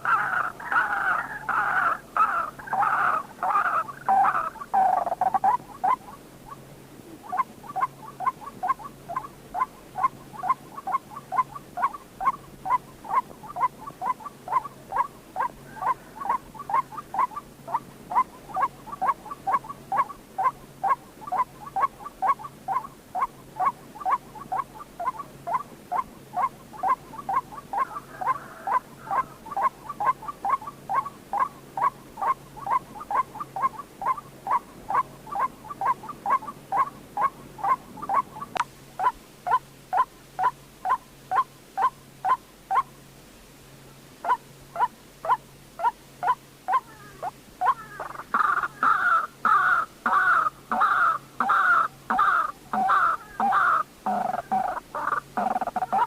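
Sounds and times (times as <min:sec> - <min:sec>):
waterhen calling: 0:00.0 - 0:43.0, 0:44.2 - 0:56.0.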